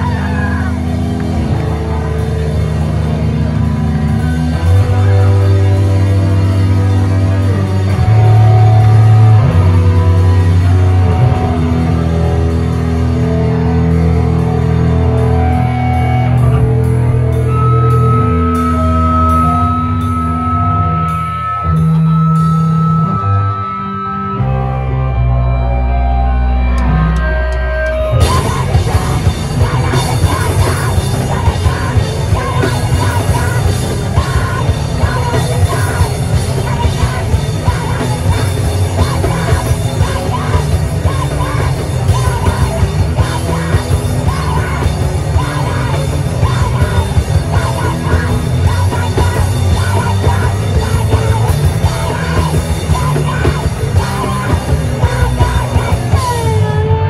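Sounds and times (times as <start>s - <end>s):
yelled vocals: 0.0s - 23.2s, 27.8s - 57.0s
distorted guitars: 0.0s - 57.0s
drums: 0.0s - 57.0s.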